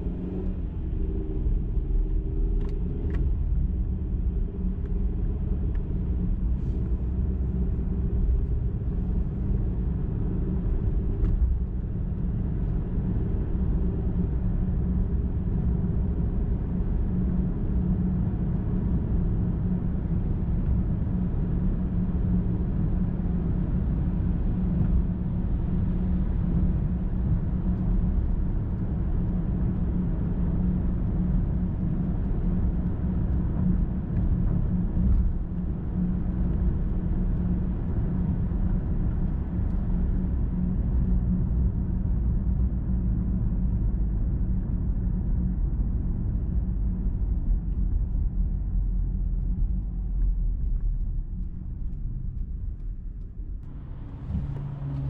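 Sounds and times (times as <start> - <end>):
car driving at highway speed: 0.0 - 55.0.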